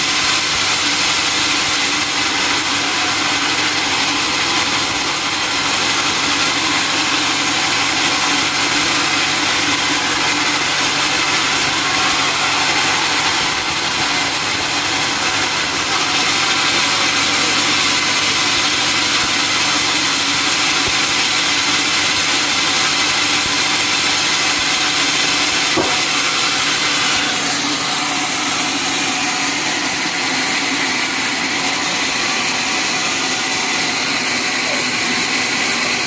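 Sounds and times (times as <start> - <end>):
sawmill saw and motor running: 0.0 - 36.0.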